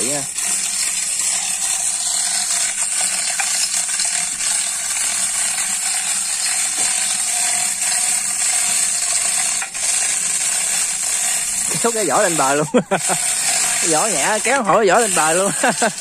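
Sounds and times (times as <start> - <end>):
ratchet clicking: 0.0 - 16.0.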